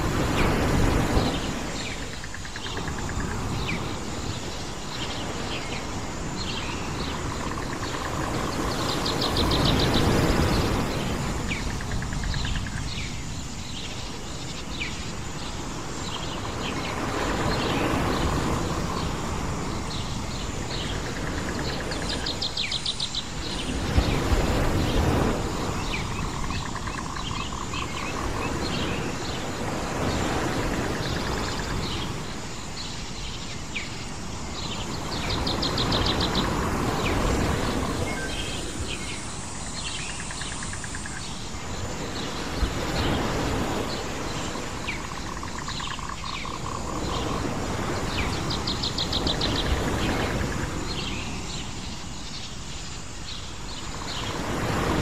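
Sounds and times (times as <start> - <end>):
birds chirping and trilling: 0.0 - 55.0
surf on a shore: 0.0 - 55.0.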